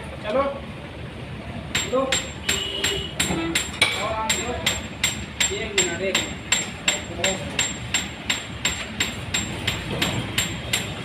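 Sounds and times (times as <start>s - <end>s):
hammer strikes: 1.7s - 11.0s.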